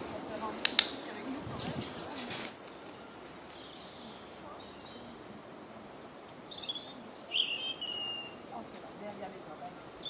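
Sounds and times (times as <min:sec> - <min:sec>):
outdoor background hiss: 0:00.0 - 0:10.0
small birds chirping: 0:00.4 - 0:10.0.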